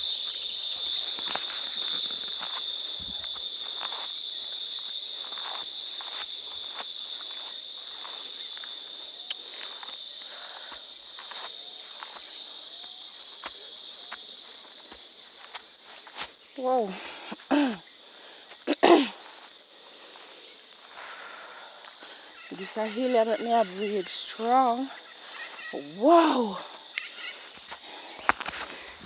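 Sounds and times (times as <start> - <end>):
insects chirring: 0.0 - 29.0
soft footsteps on ground: 0.0 - 29.0.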